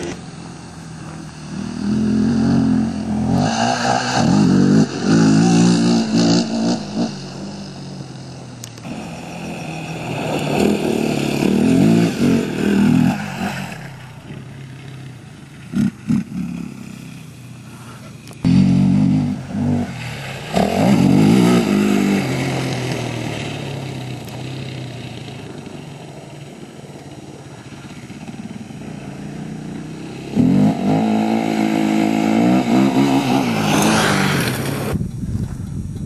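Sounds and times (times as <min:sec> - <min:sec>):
quad engines revving: 0:00.0 - 0:35.0.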